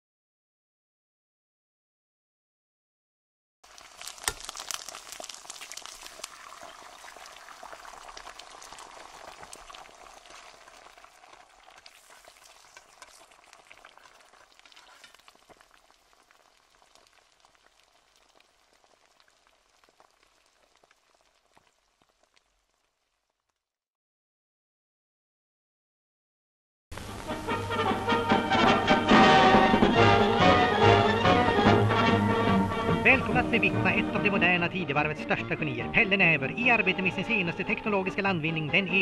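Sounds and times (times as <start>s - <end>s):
record surface crackle and hiss: 3.6s - 23.6s, 26.9s - 39.0s.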